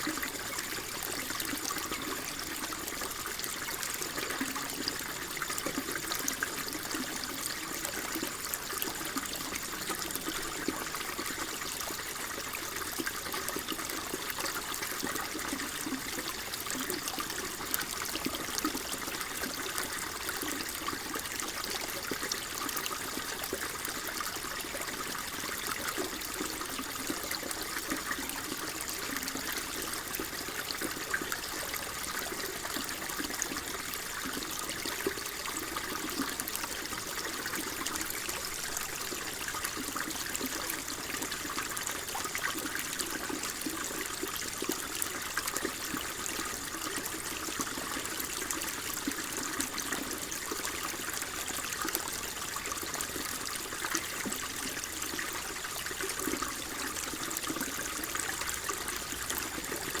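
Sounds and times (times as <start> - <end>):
water flowing and trickling: 0.0 - 60.0.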